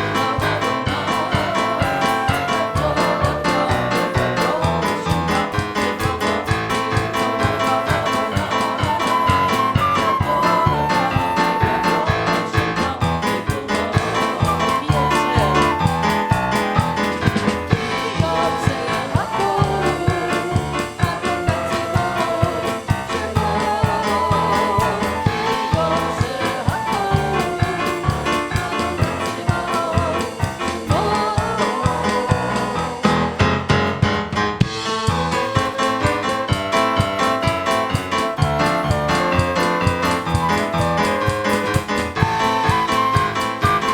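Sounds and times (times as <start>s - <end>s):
worship singing with keyboard: 0.0s - 43.9s.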